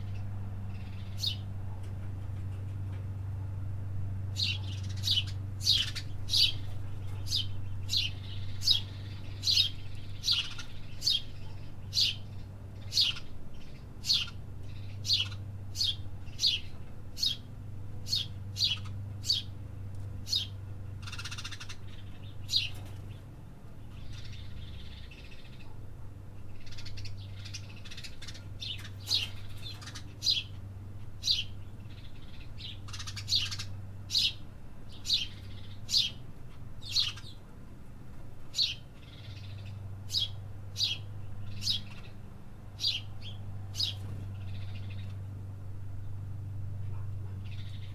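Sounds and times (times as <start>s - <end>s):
small bird chirping: 0.0s - 1.8s, 4.3s - 19.6s, 20.2s - 30.6s, 31.2s - 37.4s, 38.5s - 42.2s, 42.8s - 45.4s, 47.0s - 47.9s
steady low hum: 0.0s - 47.9s.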